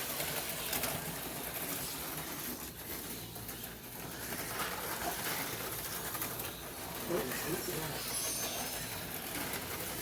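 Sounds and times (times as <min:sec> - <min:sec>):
slot cars whirring on track: 0:00.0 - 0:10.0.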